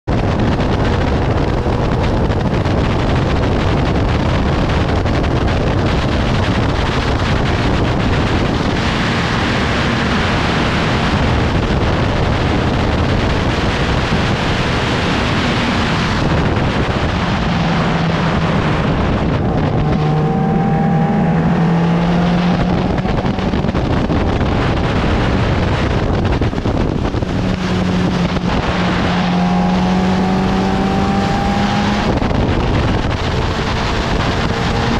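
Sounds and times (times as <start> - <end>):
racing car engine: 0.1 - 34.9
wind buffeting microphone: 0.1 - 34.9.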